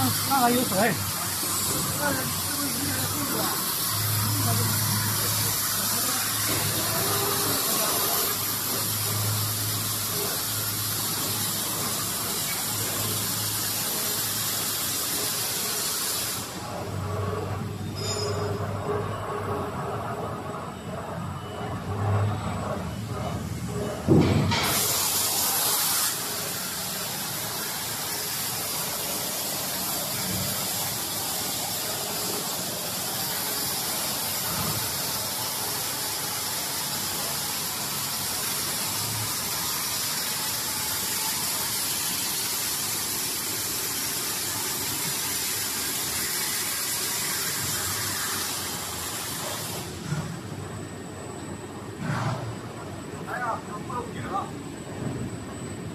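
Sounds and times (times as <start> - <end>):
machine hiss: 0.0 - 19.0, 24.0 - 50.6.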